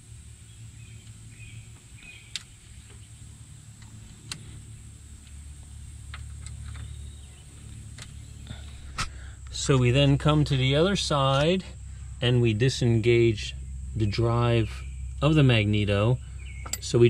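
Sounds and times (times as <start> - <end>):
faint low hum: 0.0 - 17.0
ignition leads clicking: 0.4 - 14.5, 15.1 - 17.0.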